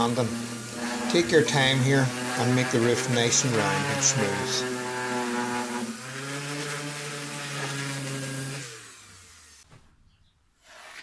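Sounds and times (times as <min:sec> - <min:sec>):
orbital sander motor hum: 0:00.0 - 0:09.6.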